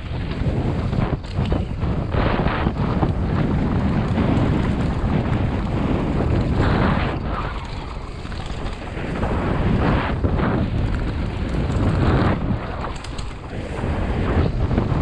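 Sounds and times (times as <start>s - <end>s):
tyres rolling over dirt: 0.0s - 15.0s
wind buffeting microphone: 0.0s - 15.0s.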